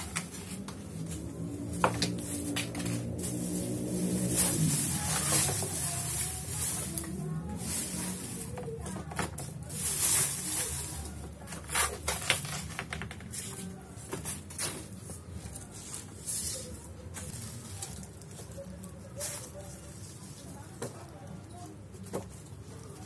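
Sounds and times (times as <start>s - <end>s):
broom swishing over tiled floor: 0.0s - 12.6s, 13.2s - 20.8s
plastic bag rustling: 0.0s - 23.0s.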